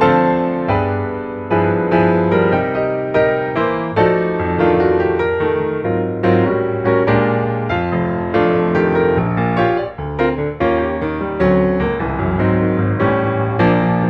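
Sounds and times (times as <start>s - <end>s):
piano chords and melody: 0.0s - 14.0s.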